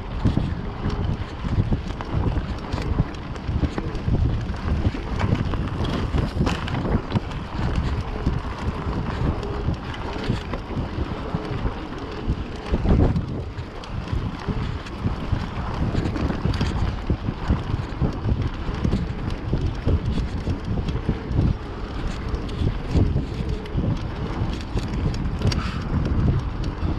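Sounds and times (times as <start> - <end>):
bike rumbling and rattling: 0.0 - 26.9
wind buffeting microphone: 0.0 - 26.9.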